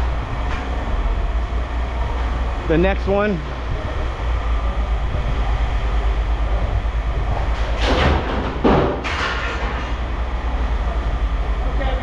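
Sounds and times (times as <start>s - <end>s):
heavy machinery rumbling: 0.0s - 12.0s
noisy clatter: 0.0s - 12.0s.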